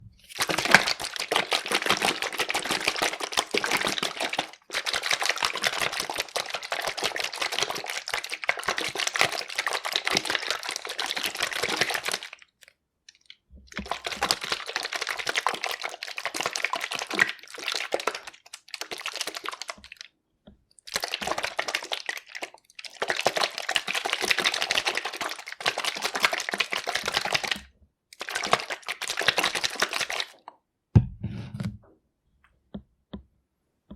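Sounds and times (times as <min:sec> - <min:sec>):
yoghurt sloshing in shaken bottle: 0:00.3 - 0:20.1, 0:20.8 - 0:30.5.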